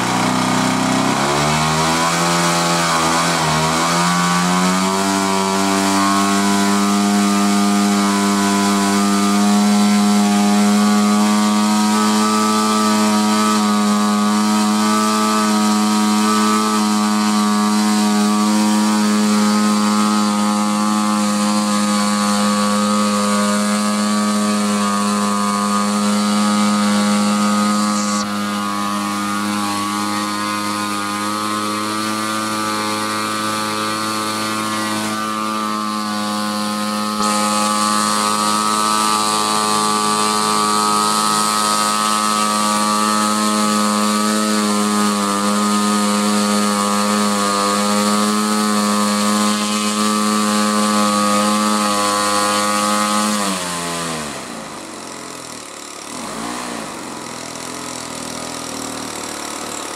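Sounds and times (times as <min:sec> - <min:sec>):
model plane engine running: 0:00.0 - 0:59.9.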